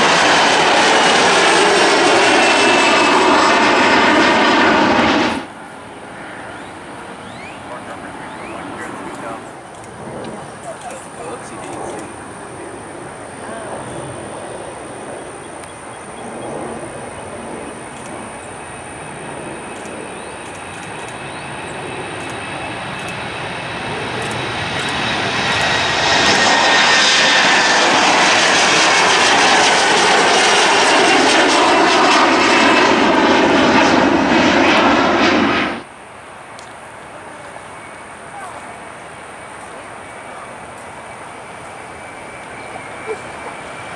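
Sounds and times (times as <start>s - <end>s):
jet engine noise at takeoff: 0.0s - 43.9s.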